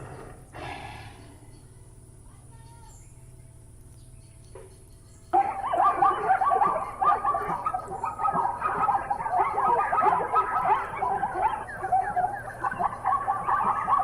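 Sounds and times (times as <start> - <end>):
chorus of animal calls: 0.0 - 2.0, 4.6 - 14.0.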